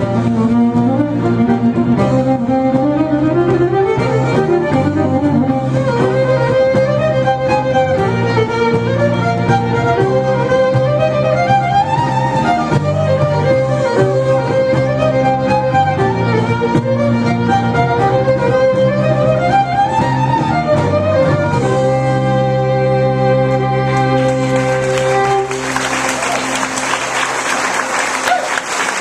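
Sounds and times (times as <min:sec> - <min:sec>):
violin melody: 0:00.0 - 0:28.0
low accompaniment: 0:00.0 - 0:29.0.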